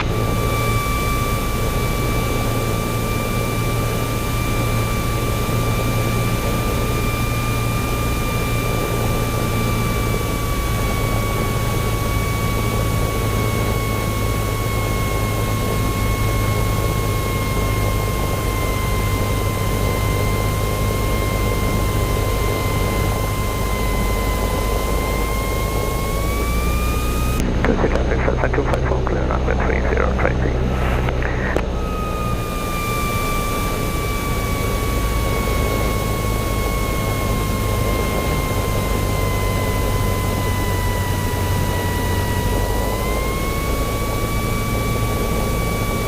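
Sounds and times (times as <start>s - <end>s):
plane engine and propeller drone: 0.0s - 46.0s
thin whine: 0.0s - 46.0s.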